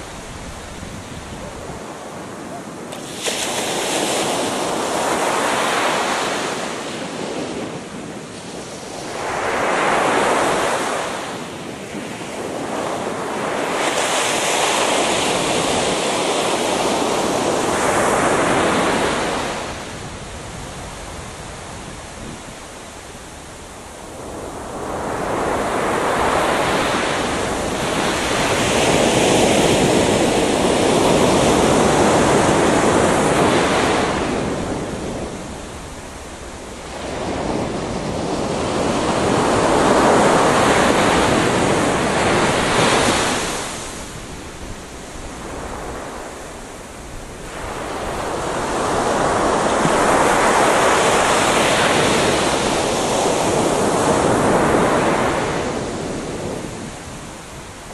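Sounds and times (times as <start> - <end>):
ocean waves washing onto beach: 0.0 - 57.9.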